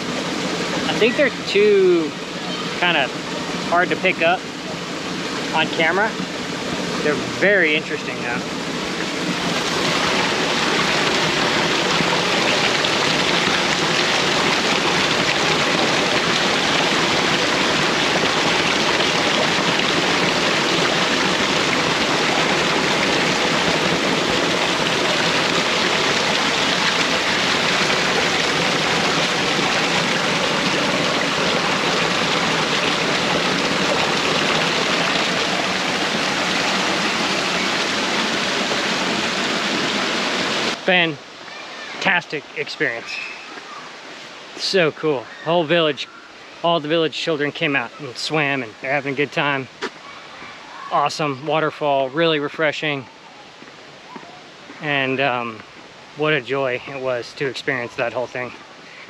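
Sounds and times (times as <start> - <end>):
waterfall rushing into pool: 0.0 - 59.0.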